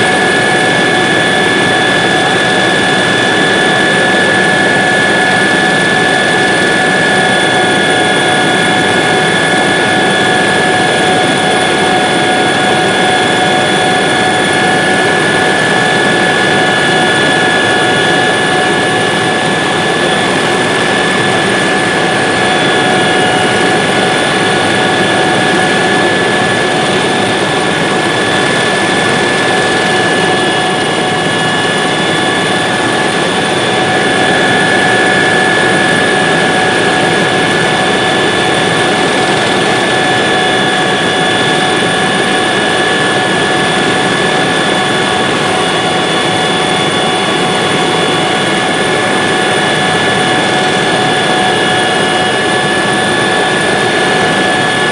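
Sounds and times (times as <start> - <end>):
helicopter engine and rotor noise: 0.0 - 54.9
high turbine whine: 0.0 - 54.9.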